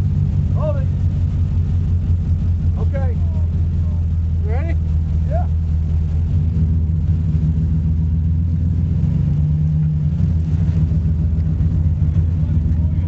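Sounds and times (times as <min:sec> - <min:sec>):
engine running with deep hum: 0:00.0 - 0:13.0.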